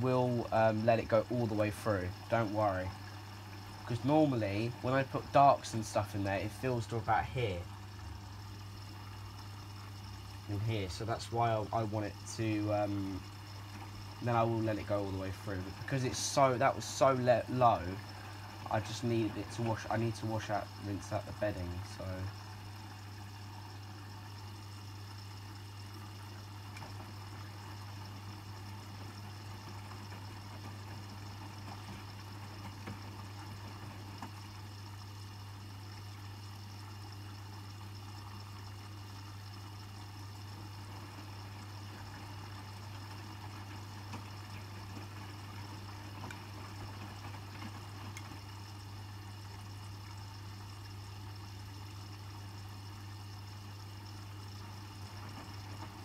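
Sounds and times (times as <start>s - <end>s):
washing machine low hum: 0.0s - 56.0s
water running into washing machine: 0.0s - 56.0s.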